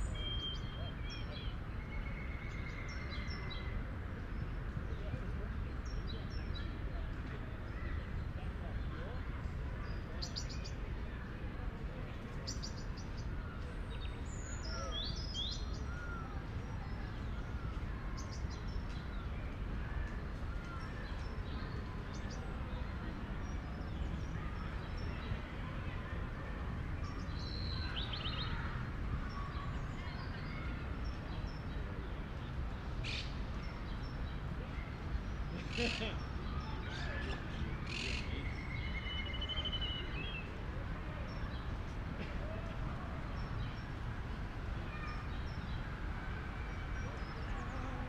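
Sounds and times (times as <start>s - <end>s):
city background rumble: 0.0s - 48.0s.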